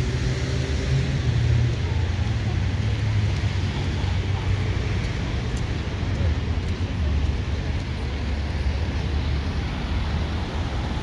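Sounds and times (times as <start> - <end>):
outdoor city noise: 0.0 - 11.0.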